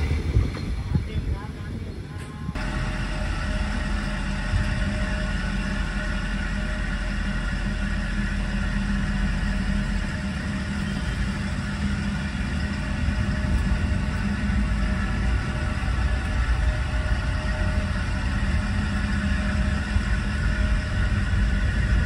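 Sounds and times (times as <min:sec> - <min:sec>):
diesel engine drone: 0:00.0 - 0:22.0
train wheels rumbling on rails: 0:00.0 - 0:22.0.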